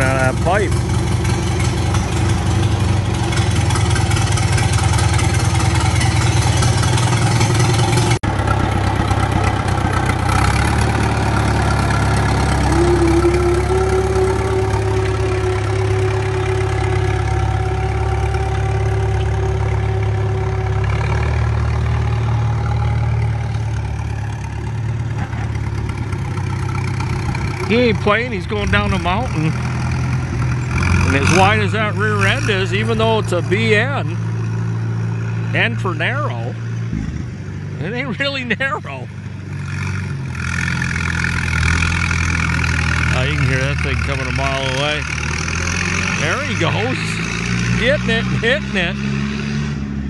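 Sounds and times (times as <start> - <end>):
steady whining tone: 0.0 - 39.5, 41.0 - 49.0
tractor engine running loudly: 0.0 - 50.0.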